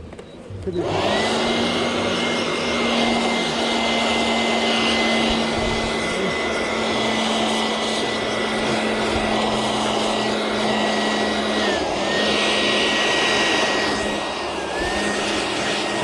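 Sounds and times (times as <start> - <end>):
blower whining and humming: 0.0 - 16.0.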